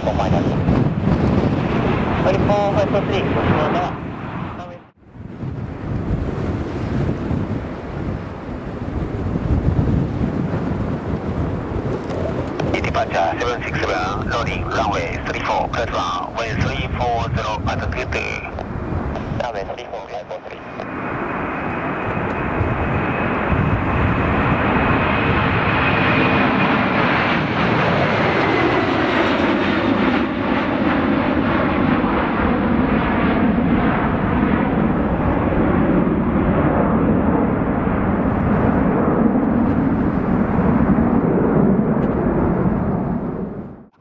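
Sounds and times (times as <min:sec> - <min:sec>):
airliner engines passing: 0:00.0 - 0:43.9.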